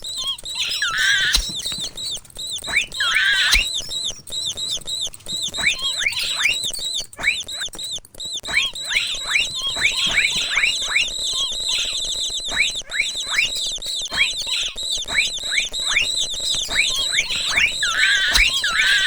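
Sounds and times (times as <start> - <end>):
mouse squeaks: 0.0 - 19.0
downward-sliding chirps: 0.1 - 19.0.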